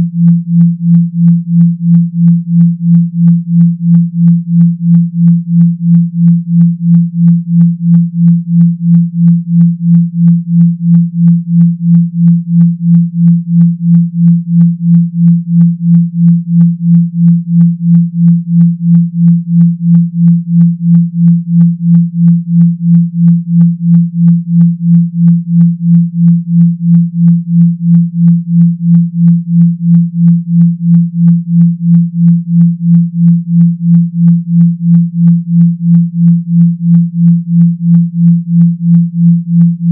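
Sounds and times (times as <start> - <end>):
pulsing deep sine tone: 0.0 - 39.9.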